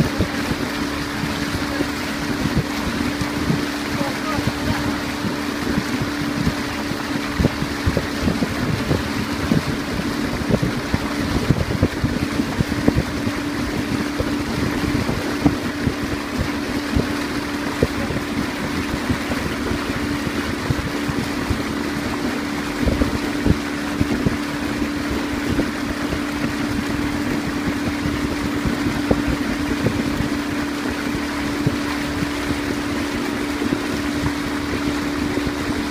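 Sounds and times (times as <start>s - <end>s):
boat motor humming: 0.0s - 35.9s
water rushing: 0.0s - 35.9s
wind buffeting microphone: 0.0s - 35.9s.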